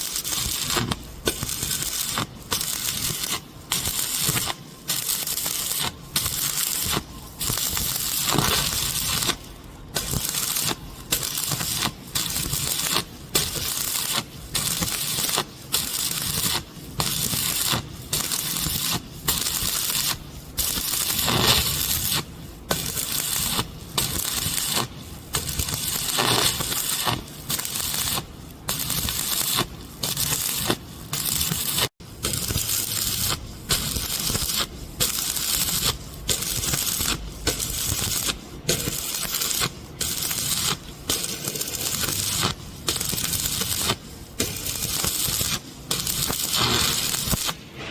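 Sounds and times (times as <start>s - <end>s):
welding arc crackling and sizzling: 0.0s - 47.9s.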